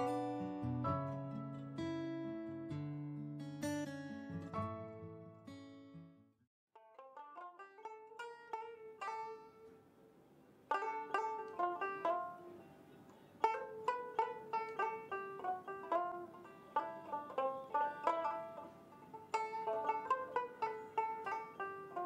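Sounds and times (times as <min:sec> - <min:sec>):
plucked string music: 0:00.0 - 0:05.6, 0:06.8 - 0:09.9, 0:10.7 - 0:22.0.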